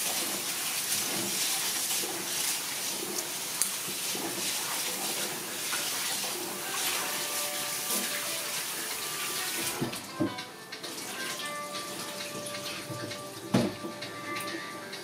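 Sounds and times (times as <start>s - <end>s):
tap water running and splashing: 0.0s - 15.0s.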